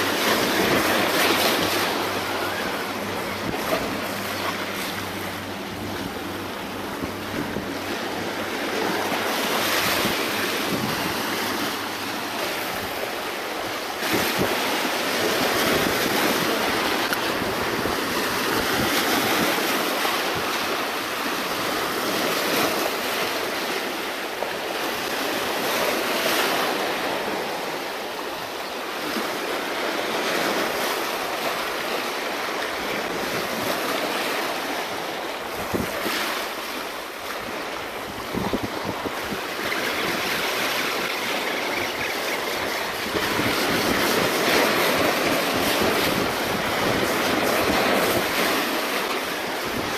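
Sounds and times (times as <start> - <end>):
sea waves breaking on rocks: 0.0 - 49.9.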